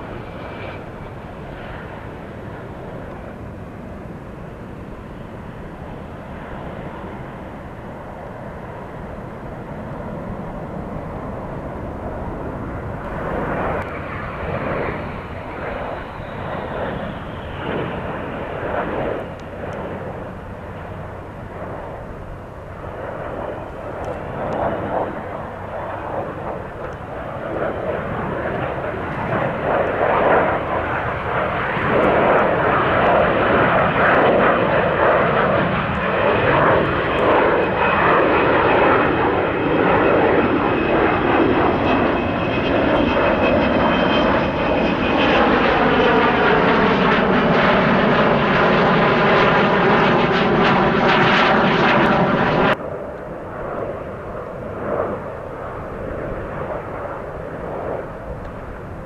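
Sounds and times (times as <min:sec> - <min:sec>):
jet aircraft flypast with whine: 0:00.0 - 0:59.0.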